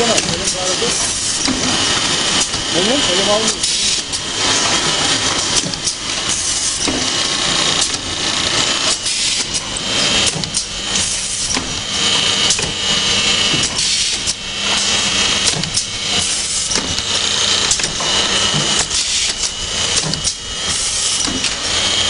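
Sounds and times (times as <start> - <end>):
machine whir and hum: 0.0 - 22.0.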